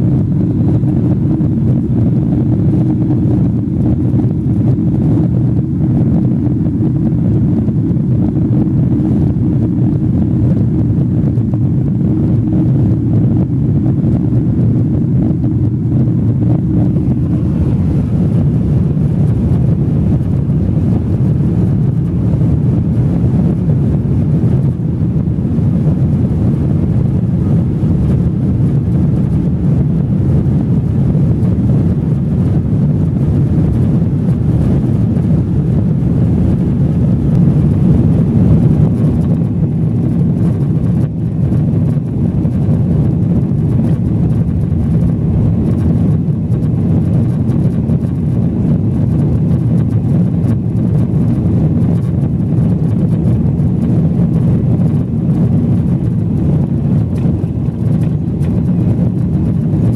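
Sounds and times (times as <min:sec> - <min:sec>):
jet engine and airflow roar: 0:00.0 - 0:59.9.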